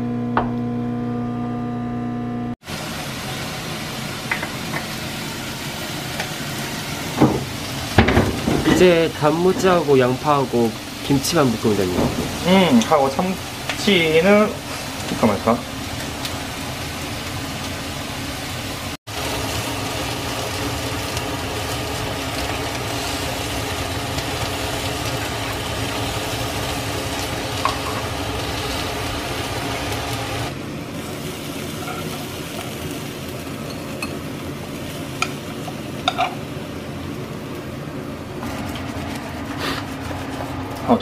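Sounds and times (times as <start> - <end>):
eggs sizzling in a frying pan: 2.6 - 41.0.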